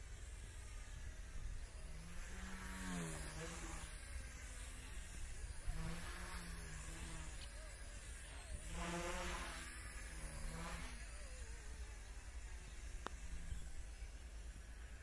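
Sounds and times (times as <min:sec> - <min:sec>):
toy helicopter buzzing: 0:00.0 - 0:15.0.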